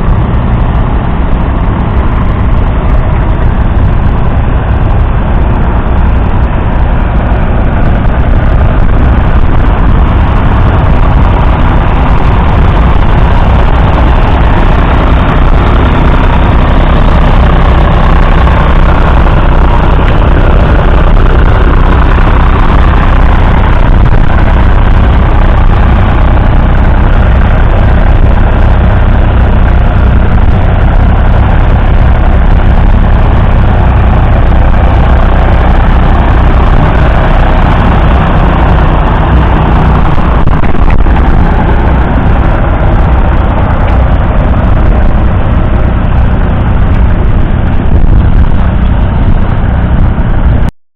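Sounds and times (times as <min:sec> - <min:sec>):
diesel tractor engine running: 0:00.0 - 0:50.7.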